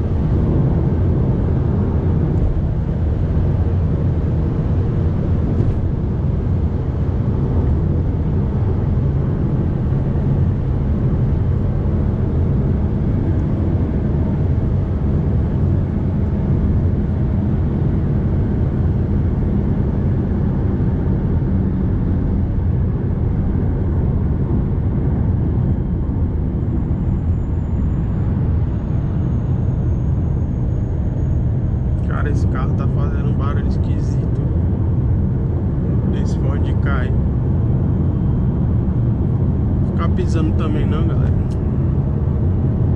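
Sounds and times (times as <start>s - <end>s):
road noise: 0.0s - 42.9s.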